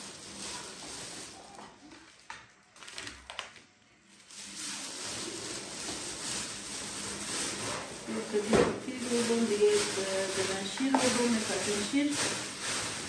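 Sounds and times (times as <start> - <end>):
plastic bags rustling: 0.0 - 13.0.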